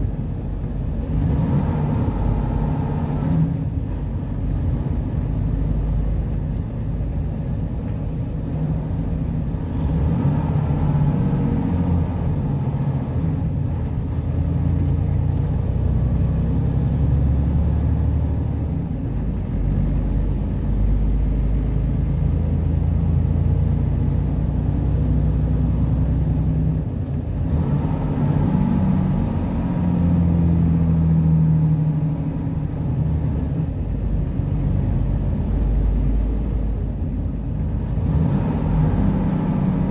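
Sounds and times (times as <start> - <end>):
engine and road noise in cab: 0.0 - 39.9.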